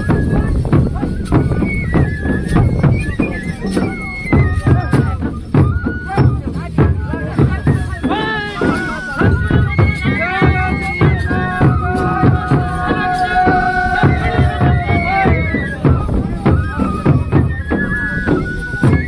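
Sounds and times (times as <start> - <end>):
rapid drumbeats: 0.0 - 19.0
wind instrument melody: 0.0 - 19.0.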